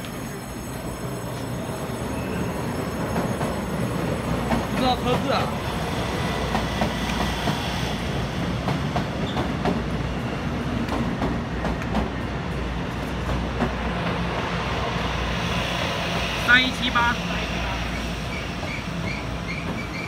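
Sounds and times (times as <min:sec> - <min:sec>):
train rumbling along tracks: 0:00.0 - 0:20.0.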